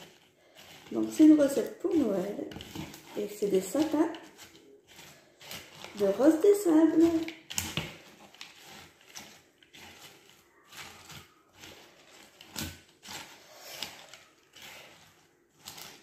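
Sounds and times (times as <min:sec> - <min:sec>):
spatula scraping in bowl: 0:00.0 - 0:16.0.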